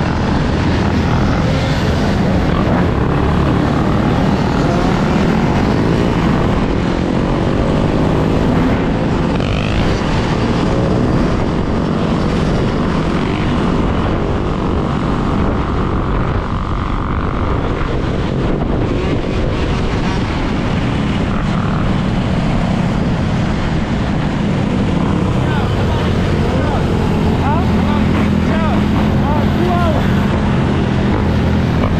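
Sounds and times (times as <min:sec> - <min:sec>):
road noise: 0:00.0 - 0:31.9
wind rush on microphone: 0:00.0 - 0:31.9.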